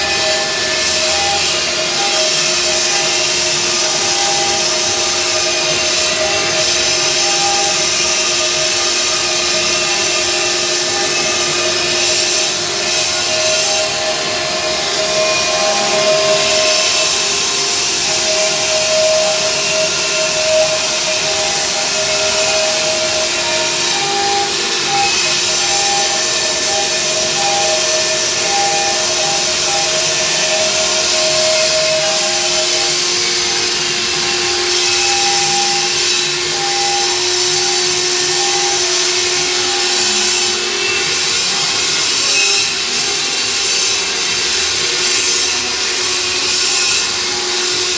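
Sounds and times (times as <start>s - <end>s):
router grinding stone: 0.0s - 47.9s
spindle whine: 0.0s - 47.9s.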